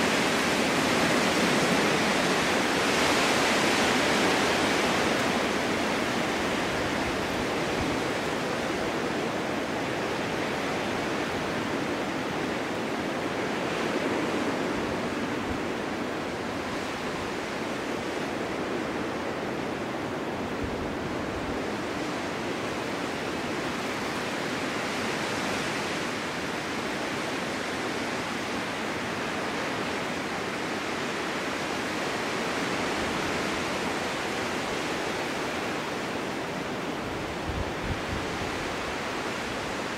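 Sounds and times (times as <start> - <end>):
storm wind blowing: 0.0 - 39.9.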